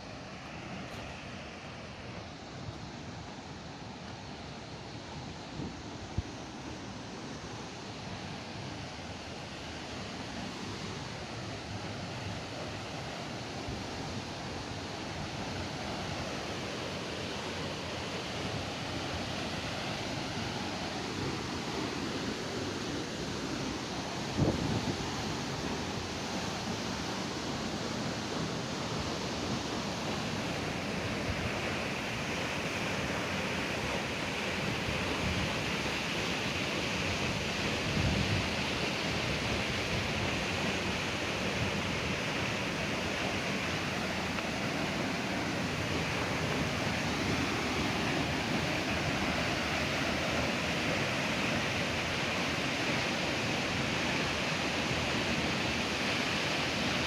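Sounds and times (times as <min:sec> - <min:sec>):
waterfall rushing: 0:10.1 - 0:57.0.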